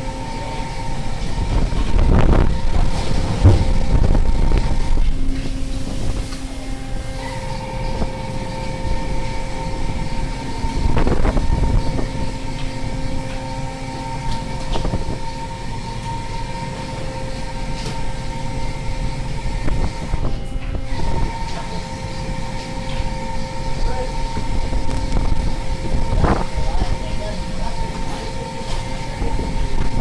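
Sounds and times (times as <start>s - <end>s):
boat machinery drone: 0.0s - 30.0s
steady machine whine: 0.0s - 30.0s.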